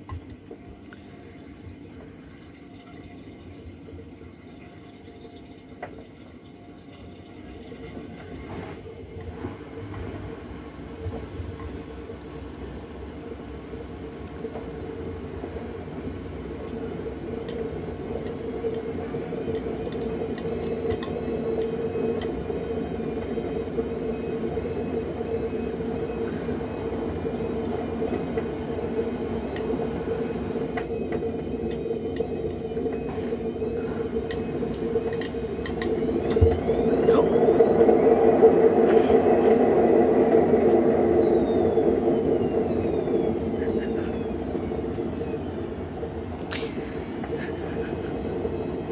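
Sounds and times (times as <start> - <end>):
washing machine drum humming: 0.0 - 48.9.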